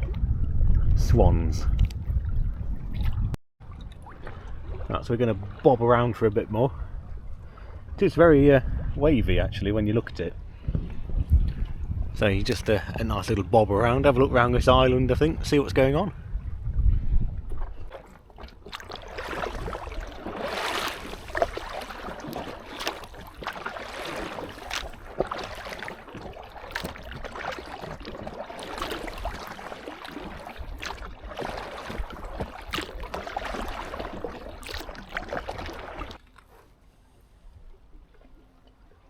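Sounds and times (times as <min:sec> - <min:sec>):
water splashing against kayak: 0:00.0 - 0:08.0, 0:08.6 - 0:13.4, 0:15.5 - 0:39.0.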